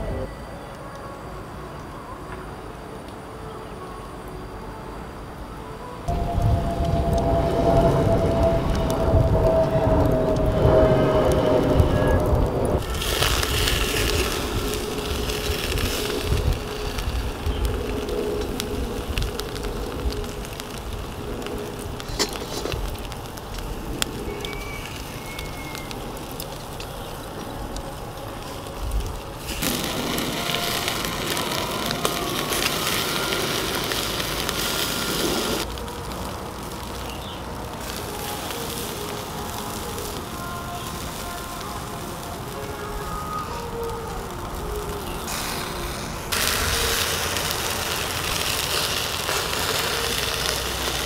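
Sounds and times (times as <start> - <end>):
fire crackles and pops: 0.0 - 51.0
chicken wings sizzling on grill: 6.0 - 51.0.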